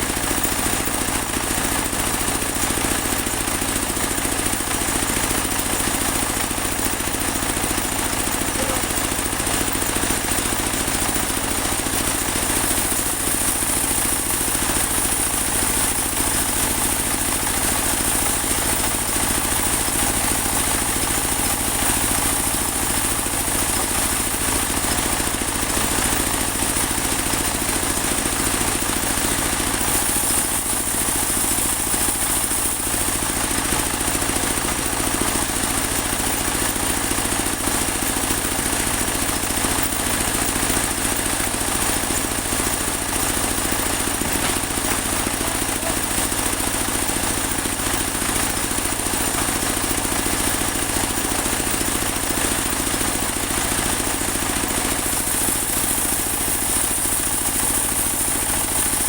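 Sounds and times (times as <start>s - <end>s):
sawmill engine drone: 0.0s - 59.0s.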